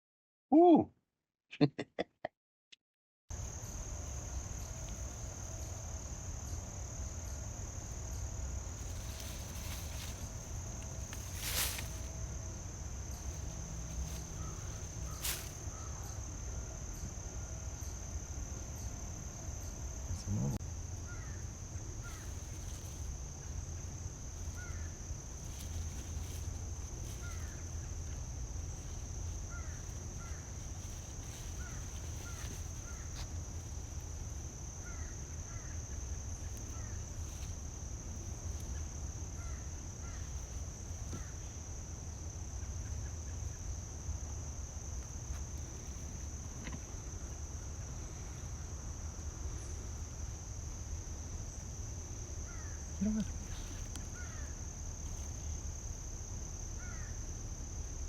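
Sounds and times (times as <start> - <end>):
insects trilling: 3.3 - 58.0.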